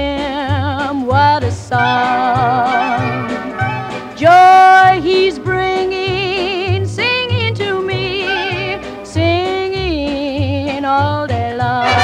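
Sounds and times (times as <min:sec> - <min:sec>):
cheerful song with vibrato vocals: 0:00.0 - 0:12.0.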